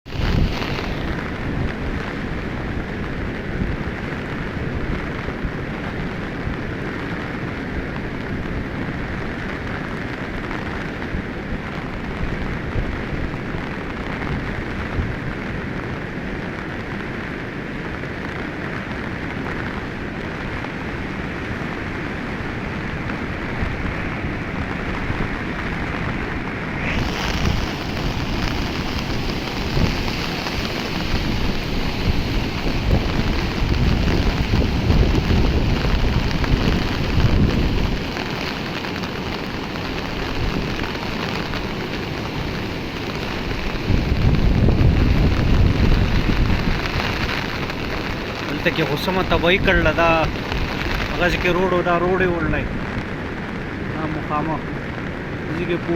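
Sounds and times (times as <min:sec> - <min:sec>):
floodwater rushing: 0:00.0 - 0:55.9.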